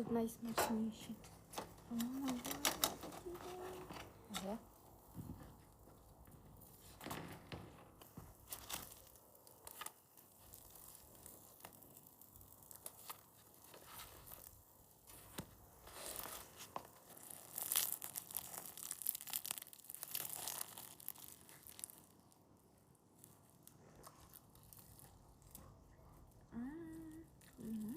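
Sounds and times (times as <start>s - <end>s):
tearing and crinkling: 1.5s - 5.8s, 6.6s - 22.4s, 23.2s - 26.3s.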